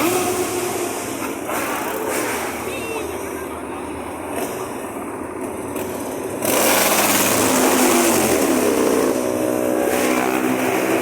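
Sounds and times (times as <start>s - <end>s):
motorcycles passing by: 0.0s - 11.0s.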